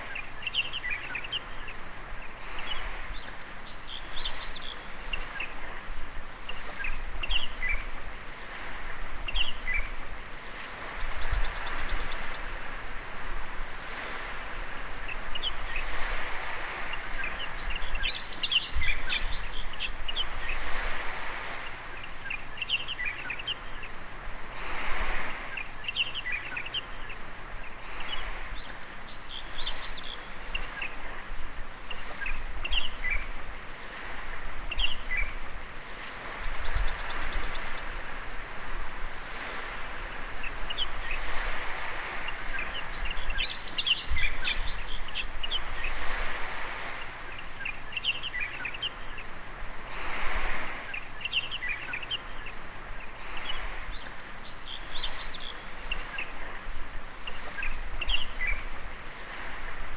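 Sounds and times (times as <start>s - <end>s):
small birds chirping: 0.0s - 13.0s, 13.9s - 24.1s, 25.1s - 38.4s, 39.3s - 49.4s, 50.2s - 59.6s
waves washing on beach: 0.0s - 59.9s.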